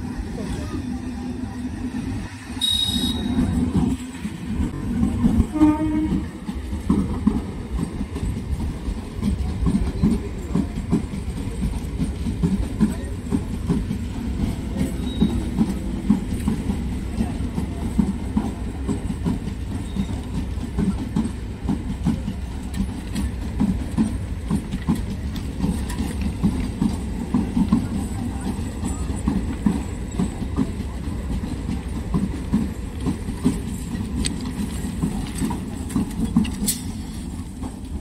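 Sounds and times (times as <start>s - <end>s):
train rumbling past: 0.0s - 38.0s
wheels clattering over rail joints: 3.3s - 38.0s.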